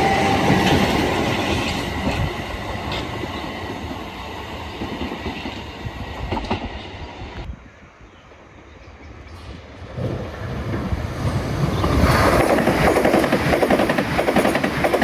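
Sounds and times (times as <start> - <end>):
train rumble and wheel clicks: 0.0 - 7.5, 9.3 - 15.0.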